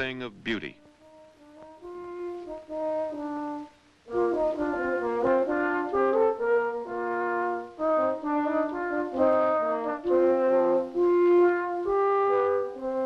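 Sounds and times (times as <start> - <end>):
brass music led by french horn: 0.0 - 13.0.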